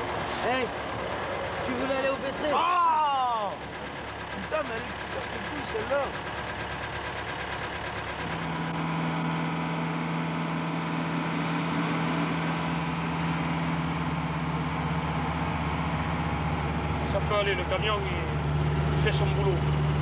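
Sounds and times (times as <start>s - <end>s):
outdoor traffic noise: 0.0s - 20.0s
road noise: 0.0s - 20.0s
truck engine running: 0.0s - 20.0s.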